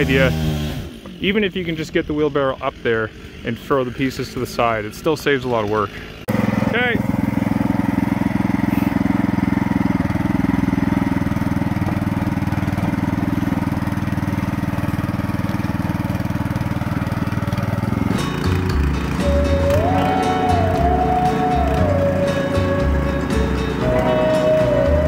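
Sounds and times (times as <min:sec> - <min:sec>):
small gasoline engine running: 0:00.0 - 0:25.0.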